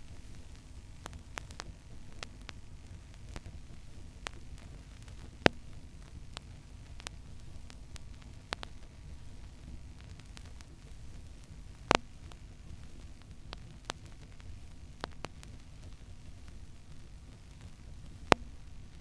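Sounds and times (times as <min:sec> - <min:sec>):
vinyl crackles and pops: 0:00.0 - 0:19.0
vinyl record surface noise: 0:00.0 - 0:19.0.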